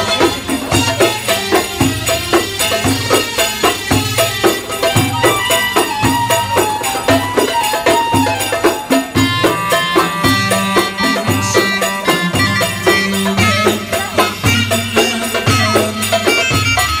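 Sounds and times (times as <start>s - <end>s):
frame drums beating: 0.0s - 17.0s
held melody line: 0.0s - 17.0s.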